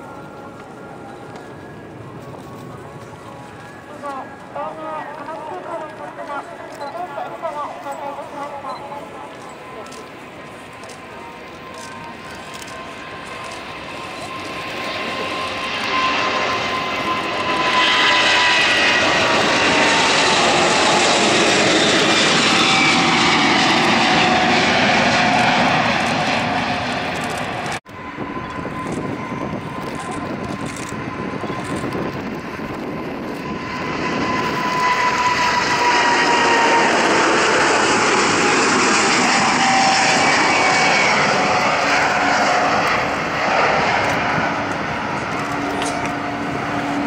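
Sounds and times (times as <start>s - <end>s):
jet airliner taking off: 0.0s - 47.0s.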